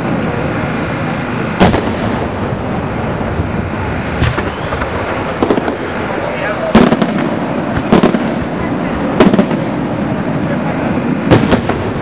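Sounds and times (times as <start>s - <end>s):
crackling rumble of fireworks: 0.0s - 12.0s
fireworks bangs: 0.0s - 12.0s.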